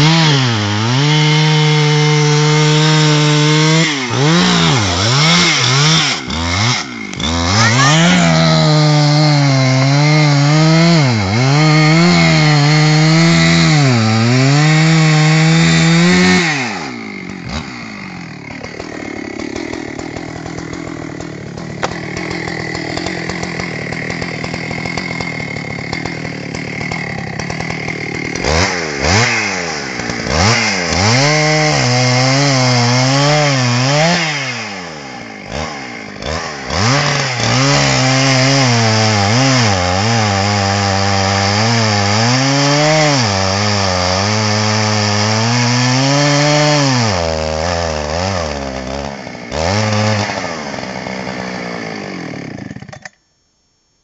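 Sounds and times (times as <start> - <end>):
chainsaw cutting tree trunk: 0.0 - 53.2.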